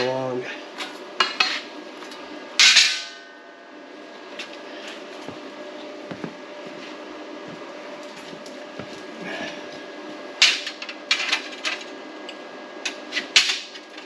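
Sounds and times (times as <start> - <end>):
steady shop hum: 0.0 - 14.0.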